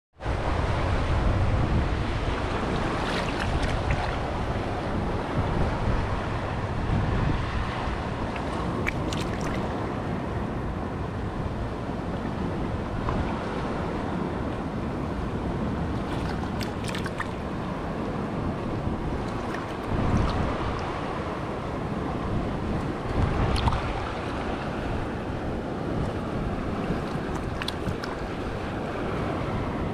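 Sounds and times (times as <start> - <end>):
waves on a rocky shore: 0.2 - 29.9
wind buffeting microphone: 0.2 - 29.9.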